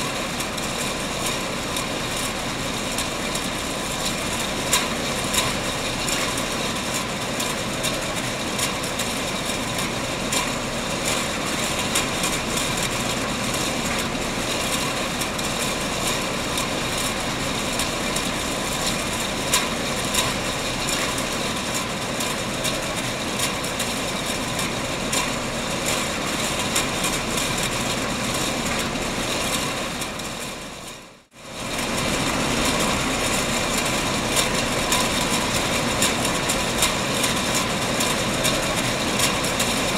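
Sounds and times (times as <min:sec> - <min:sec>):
canning machinery running: 0:00.0 - 0:39.9.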